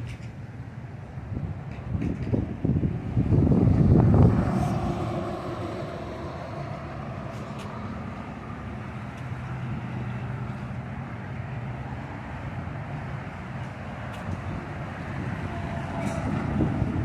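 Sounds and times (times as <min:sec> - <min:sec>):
highway traffic noise: 0:00.0 - 0:17.0
vehicle engines humming: 0:00.0 - 0:17.0.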